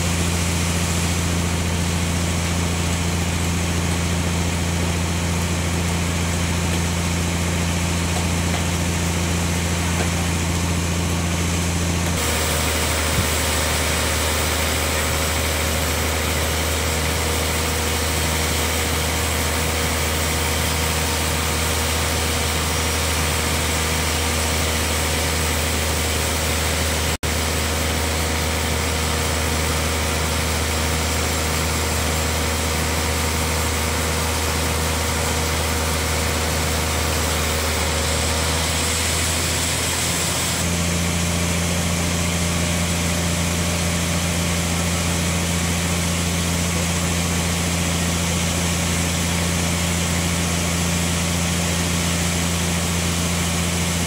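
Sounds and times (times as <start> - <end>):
band sawmill hum: 0.0 - 54.0.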